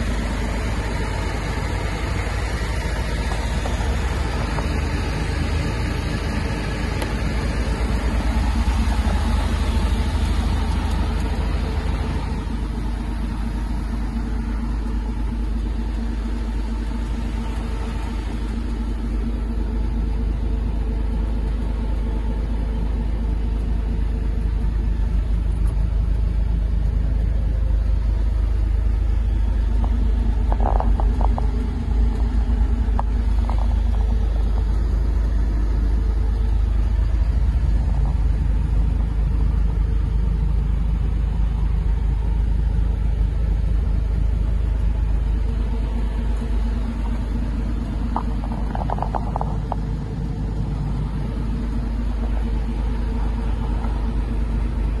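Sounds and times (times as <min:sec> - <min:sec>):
forklift engine idling: 0:00.0 - 0:55.0.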